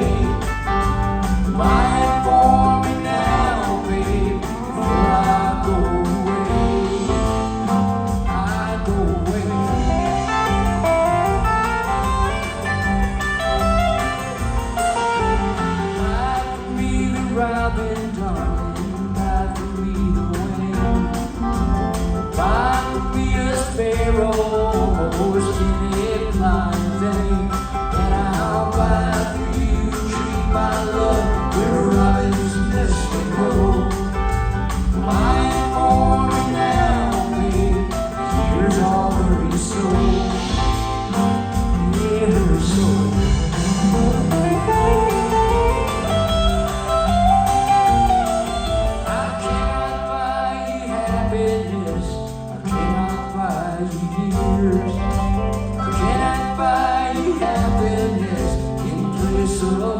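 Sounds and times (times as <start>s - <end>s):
live band with singing: 0.0s - 59.9s.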